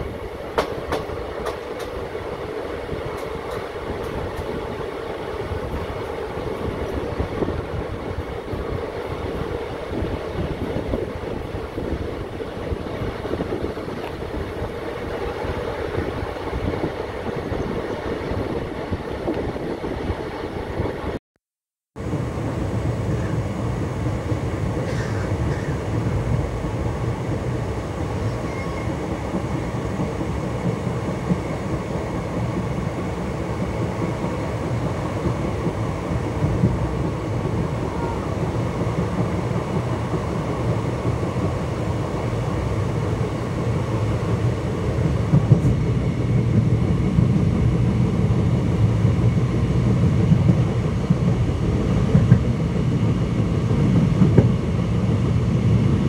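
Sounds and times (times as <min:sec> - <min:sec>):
train wheels rumbling on rail: 0:00.0 - 0:21.2, 0:22.0 - 0:56.0.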